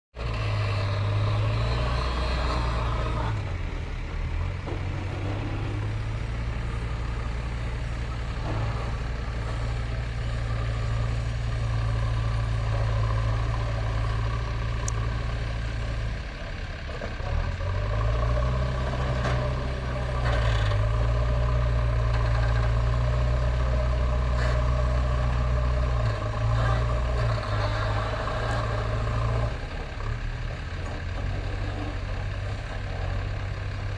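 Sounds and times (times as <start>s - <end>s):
backhoe diesel engine running: 0.2s - 33.9s.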